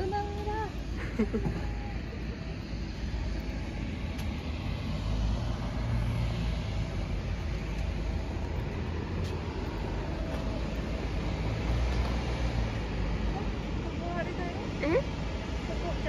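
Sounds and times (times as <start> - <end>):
apron vehicles: 0.0 - 16.0
distant aircraft: 0.0 - 16.0.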